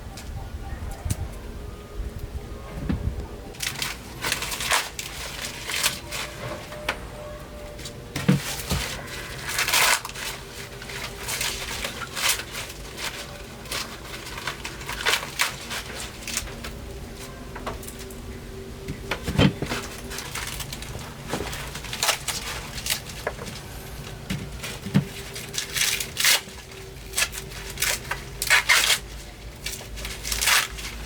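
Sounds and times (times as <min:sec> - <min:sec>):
dry corn plants crunching: 0:03.6 - 0:06.9, 0:07.8 - 0:31.0.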